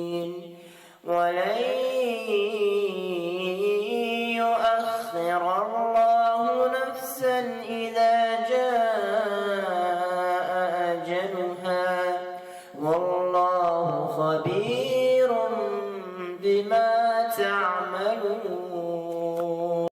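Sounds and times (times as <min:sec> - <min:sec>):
man reciting melodically: 0:00.0 - 0:19.9.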